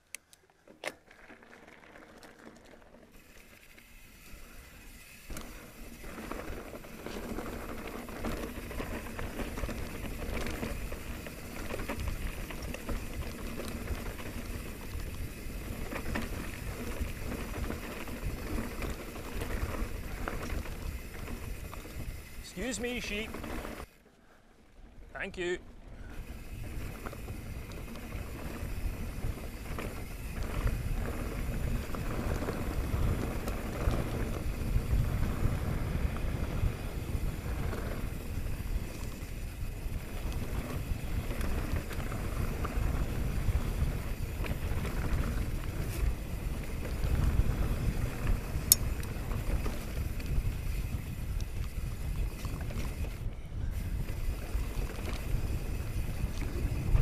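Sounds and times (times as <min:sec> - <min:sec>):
bike rattling: 0:00.0 - 0:57.0
tyres rumbling on dirt trail: 0:00.5 - 0:57.0
wind buffeting microphone: 0:06.0 - 0:23.8, 0:25.8 - 0:57.0.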